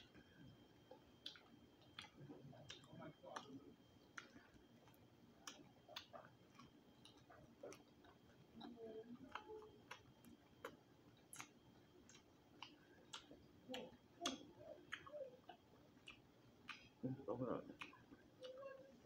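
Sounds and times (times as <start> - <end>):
chewing crispy food: 0.0 - 19.0
wet mouth clicks: 1.2 - 18.6.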